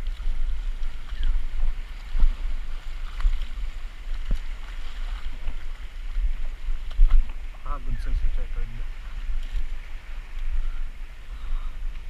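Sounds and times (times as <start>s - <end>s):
faint water sounds: 0.0s - 12.0s
wind buffeting microphone: 0.0s - 12.0s.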